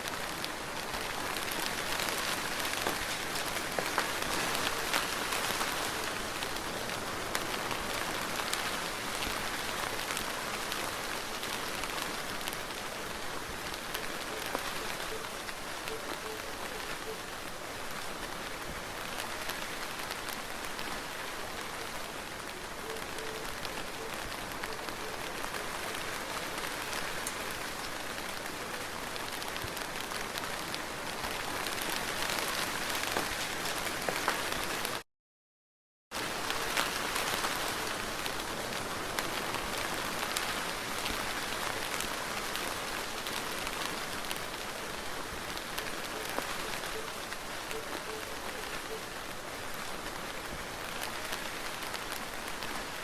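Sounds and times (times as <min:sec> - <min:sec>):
soft rain: 0:00.0 - 0:35.0, 0:36.1 - 0:53.0.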